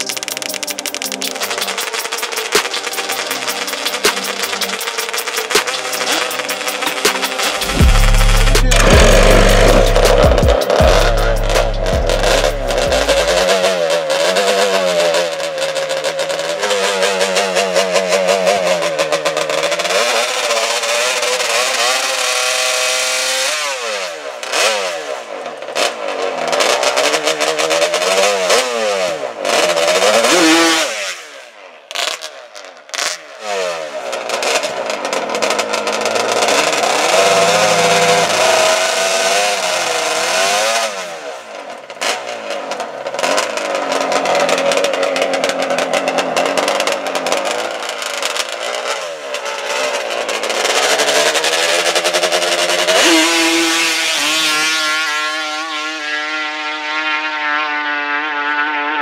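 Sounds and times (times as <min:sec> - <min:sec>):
small engine revving hard: 0:00.0 - 0:59.0
tire spinning in burnout: 0:00.0 - 0:59.0.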